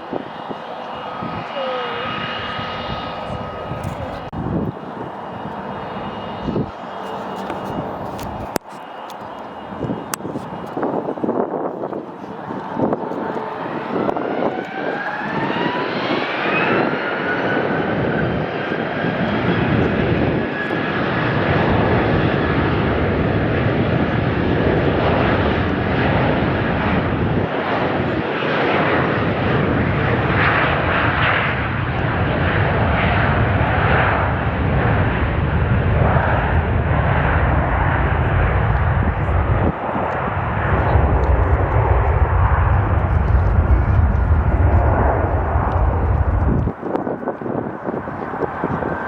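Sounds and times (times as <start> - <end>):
jet engine whine rising: 0.0 - 49.0
jet roar: 0.0 - 49.0.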